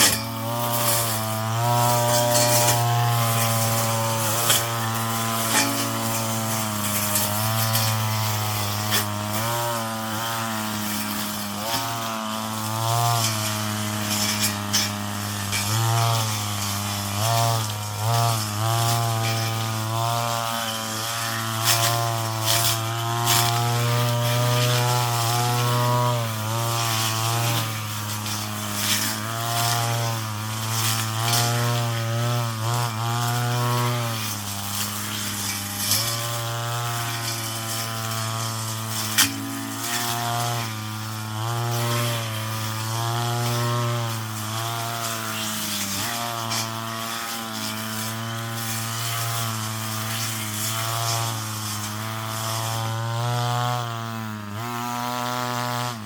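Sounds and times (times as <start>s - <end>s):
brush cutter engine running: 0.0s - 56.0s.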